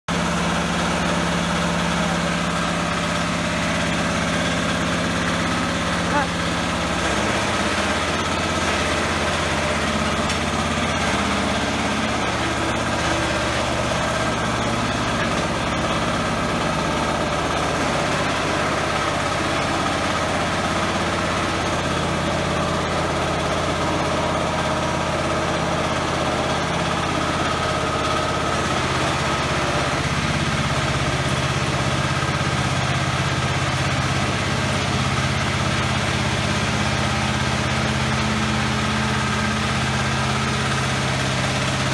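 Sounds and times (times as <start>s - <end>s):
harvester engine running: 0.1s - 41.9s.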